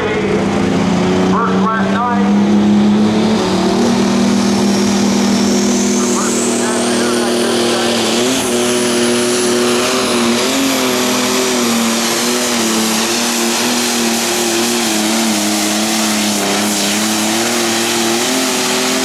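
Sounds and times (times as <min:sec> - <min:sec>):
diesel tractor engine under heavy load: 0:00.0 - 0:19.0.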